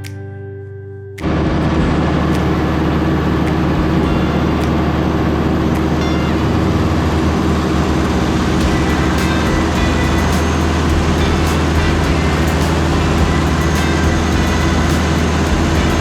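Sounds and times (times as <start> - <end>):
engine drone: 1.2 - 16.0
road noise: 1.2 - 16.0.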